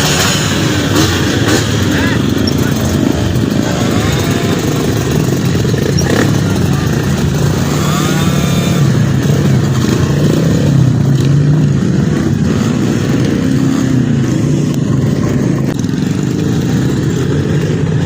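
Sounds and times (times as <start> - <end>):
motorcycle engines revving unevenly: 0.0 - 18.0.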